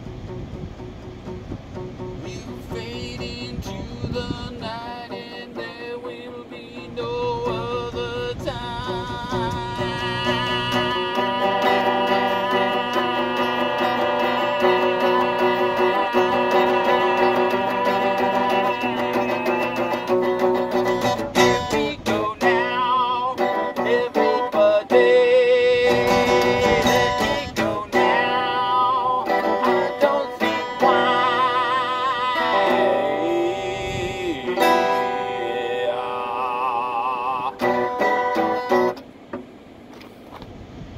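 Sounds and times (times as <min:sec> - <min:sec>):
acoustic guitar strumming: 0:00.0 - 0:39.6
man singing wordlessly: 0:02.1 - 0:39.0.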